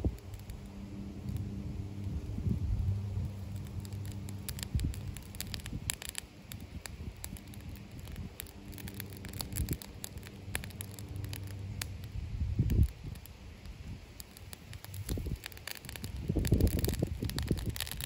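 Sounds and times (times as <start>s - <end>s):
low steady hum: 0.0s - 18.0s
wood fire crackling and popping: 0.0s - 18.0s.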